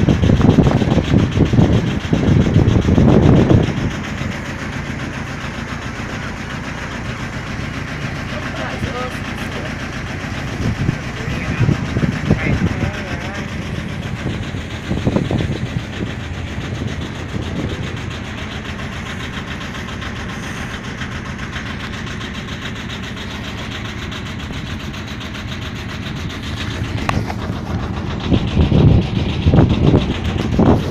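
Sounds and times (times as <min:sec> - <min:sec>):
ferry engine running: 0:00.0 - 0:30.9.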